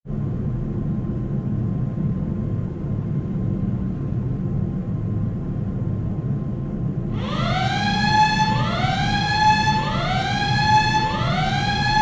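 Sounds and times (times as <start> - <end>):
faint steady whine: 0.1 - 12.0
jet aircraft cabin drone: 0.1 - 12.0.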